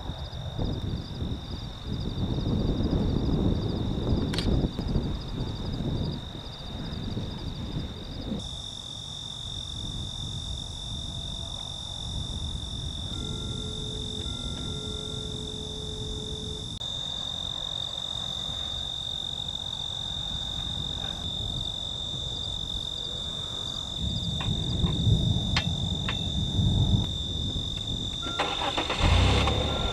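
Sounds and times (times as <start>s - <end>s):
night insects trilling: 0.0s - 29.9s.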